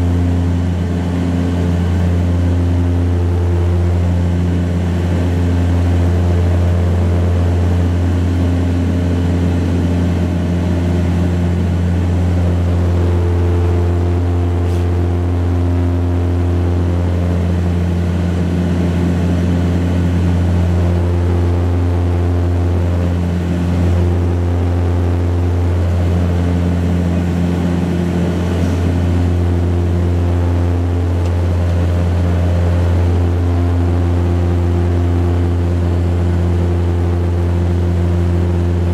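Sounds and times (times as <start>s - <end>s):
turboprop cabin drone: 0.0s - 38.9s.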